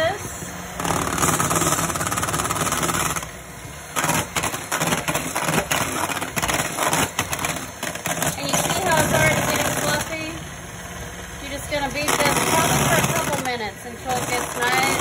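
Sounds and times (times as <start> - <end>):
electric hand mixer motor hum: 0.0 - 15.0.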